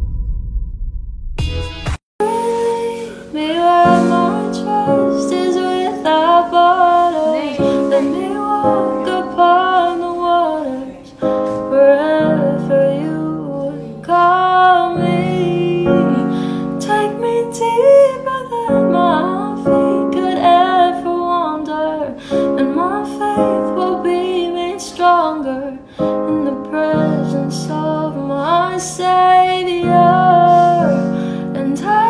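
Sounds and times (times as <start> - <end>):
piano accompaniment: 1.4 - 32.0
woman singing slow melody: 2.2 - 32.0.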